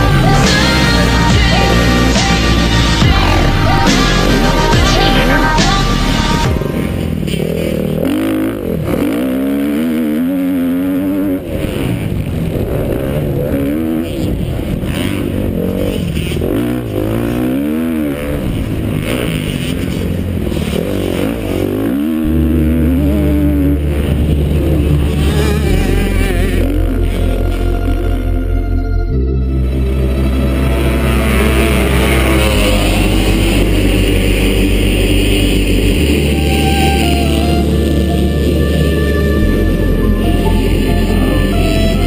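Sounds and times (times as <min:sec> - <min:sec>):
dirt bike engine revving: 0:00.0 - 0:28.8, 0:29.5 - 0:42.0.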